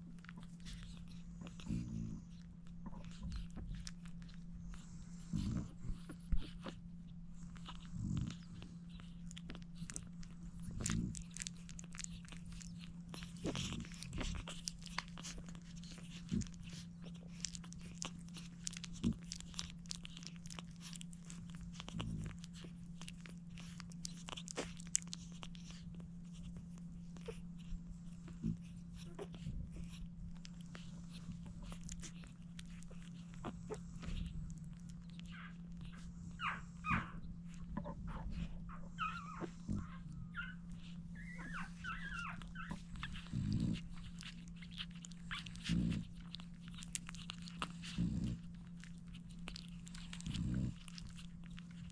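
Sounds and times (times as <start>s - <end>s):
low hum: 0.0s - 51.9s
puppies suckling: 0.0s - 51.9s.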